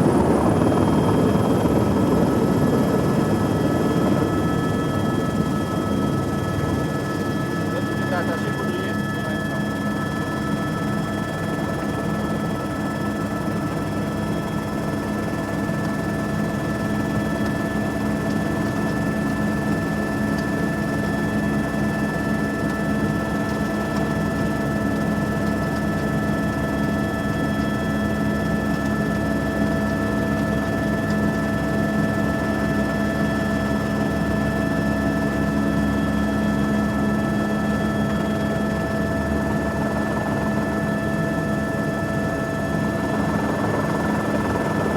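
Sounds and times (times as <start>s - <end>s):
turbine whine: 0.0s - 19.0s, 23.4s - 44.9s
helicopter engine and rotor drone: 0.0s - 44.9s.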